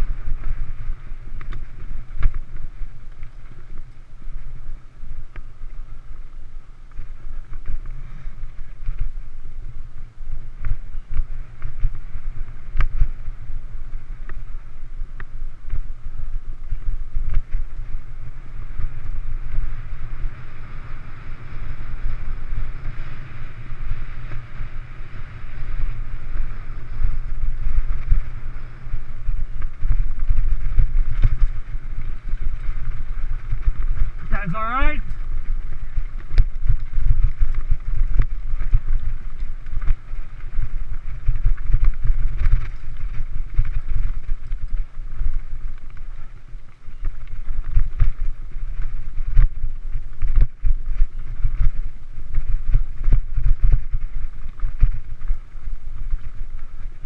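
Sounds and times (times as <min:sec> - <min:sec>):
bike clicking and rattling: 0:00.0 - 0:57.0
wind buffeting microphone: 0:00.0 - 0:57.0.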